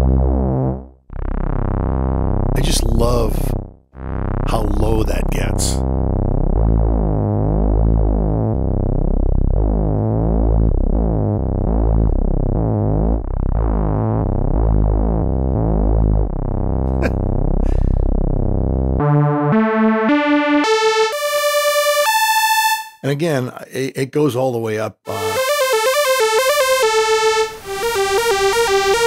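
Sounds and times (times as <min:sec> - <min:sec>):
synthesizer bass notes: 0:00.0 - 0:23.0, 0:25.1 - 0:29.0.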